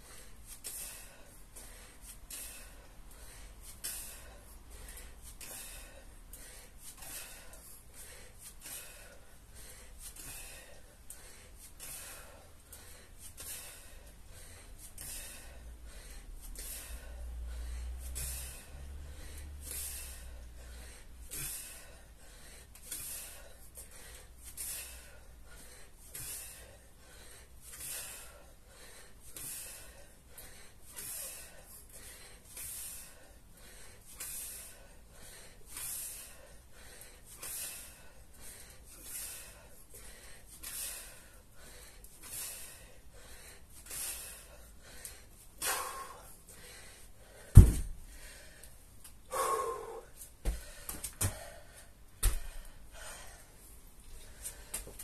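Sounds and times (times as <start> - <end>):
man breathing hard: 0.0 - 55.0.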